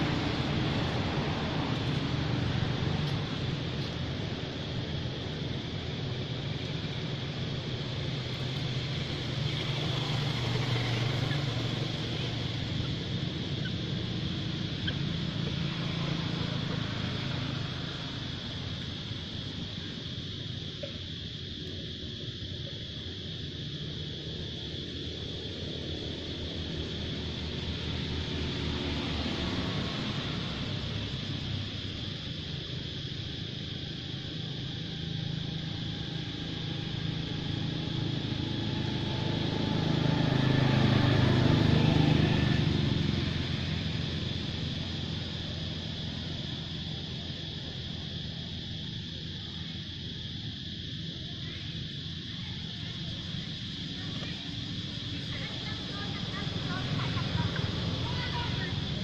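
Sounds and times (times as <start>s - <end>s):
constant high-pitched hum: 0.0s - 59.0s
vehicle engine running: 0.0s - 59.0s.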